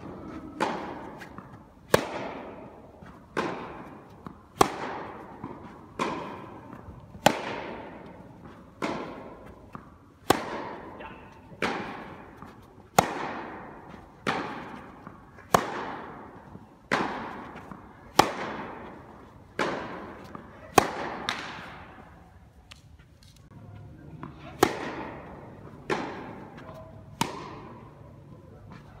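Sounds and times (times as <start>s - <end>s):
tennis racket hitting ball: 0.0s - 22.0s, 24.2s - 28.1s.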